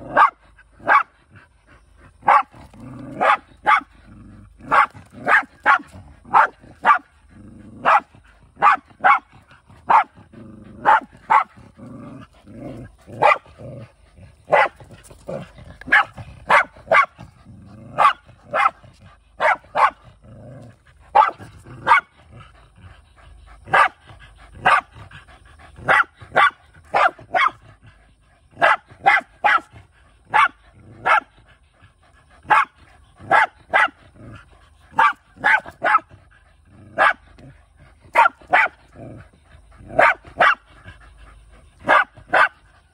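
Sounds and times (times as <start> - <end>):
dog growling low: 0.0 - 29.1, 29.7 - 42.9.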